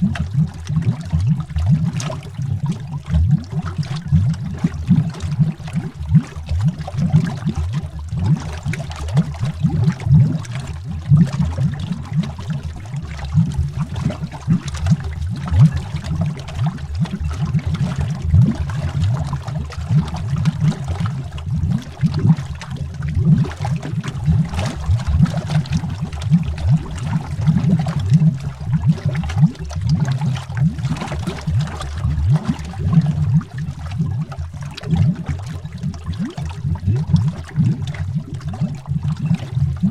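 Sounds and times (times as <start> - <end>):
underwater bubbles: 0.0 - 39.9.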